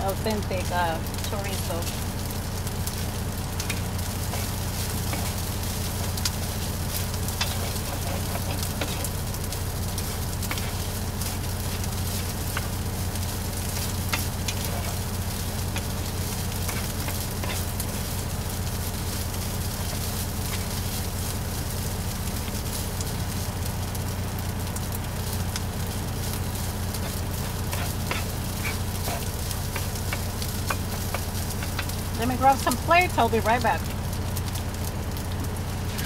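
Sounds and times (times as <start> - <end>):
meat sizzling in a frying pan: 0.0 - 36.0
sharp crackles and pops: 0.0 - 36.0
steady low hum: 0.0 - 36.0.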